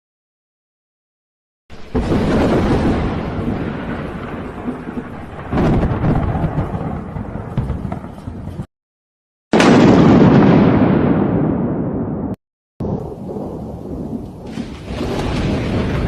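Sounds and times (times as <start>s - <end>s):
sharp thunderclap: 1.7s - 8.5s, 9.5s - 16.0s
thunder rumbling: 1.7s - 8.7s, 9.5s - 16.0s.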